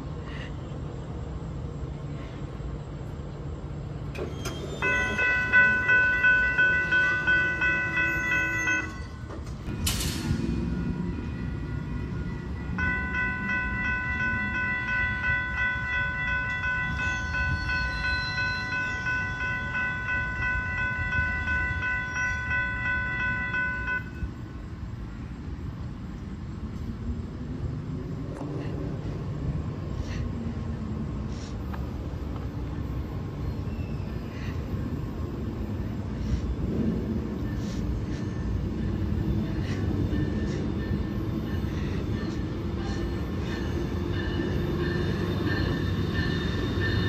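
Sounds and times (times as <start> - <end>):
low train rumble: 0.0 - 47.0.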